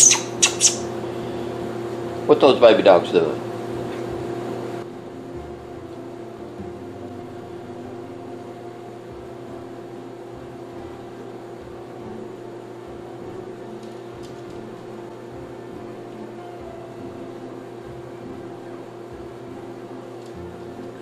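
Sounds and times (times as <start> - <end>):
appliance mechanical hum: 0.0 - 21.0.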